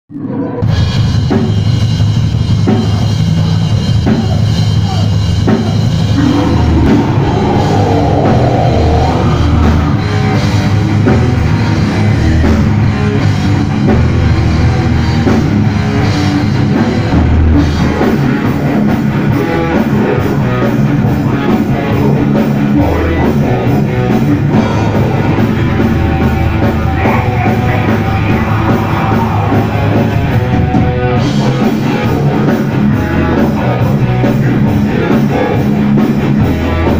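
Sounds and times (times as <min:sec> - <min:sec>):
electric guitars: 0:00.1 - 0:36.9
drum kit: 0:00.6 - 0:36.9.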